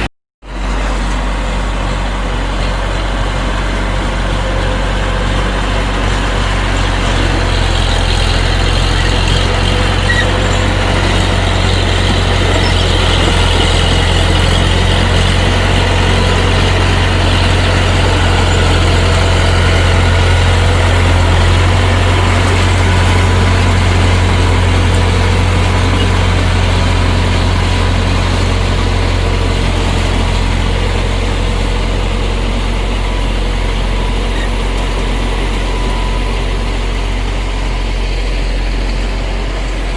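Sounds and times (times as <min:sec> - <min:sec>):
bulldozer diesel engine drone: 0:00.0 - 0:39.9.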